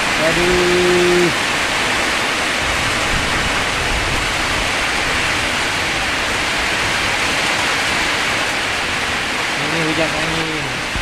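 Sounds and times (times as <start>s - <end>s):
heavy rain pouring: 0.0s - 11.0s
strong wind: 0.0s - 11.0s.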